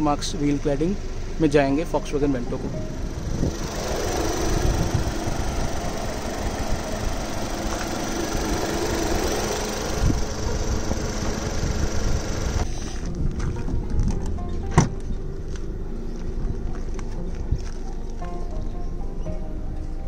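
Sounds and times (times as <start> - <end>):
car engine idling: 0.0 - 19.2.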